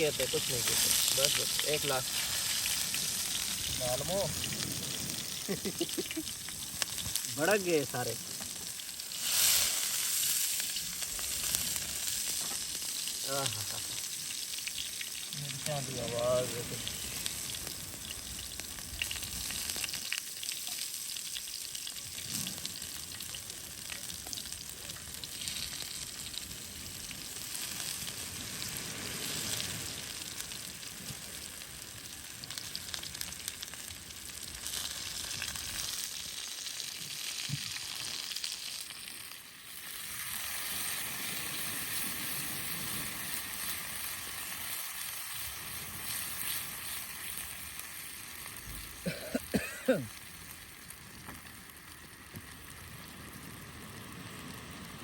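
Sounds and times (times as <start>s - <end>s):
chillies sizzling in hot oil: 0.0s - 55.0s.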